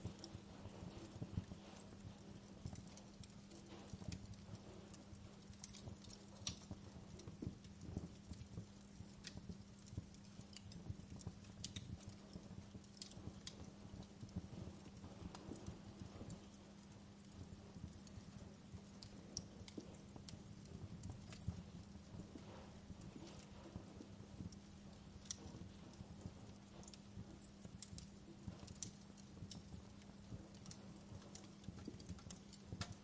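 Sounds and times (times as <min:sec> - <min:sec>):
faint low hum: 0:00.0 - 0:33.0
wood fire crackling: 0:00.0 - 0:33.0.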